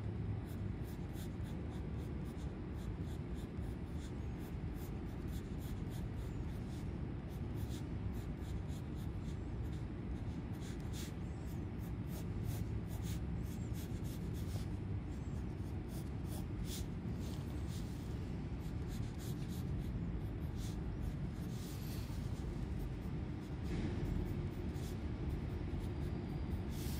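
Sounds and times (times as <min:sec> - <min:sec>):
low background rumble: 0:00.0 - 0:26.9
pencil scratching on paper: 0:00.4 - 0:26.9.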